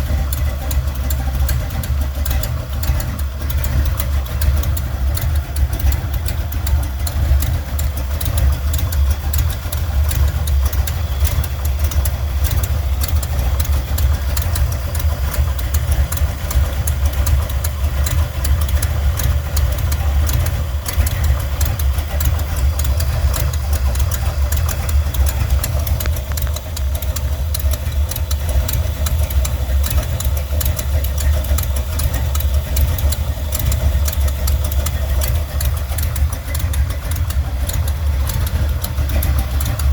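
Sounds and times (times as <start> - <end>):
car engine idling: 0.0 - 39.9
rapid engine ticking: 0.0 - 39.9.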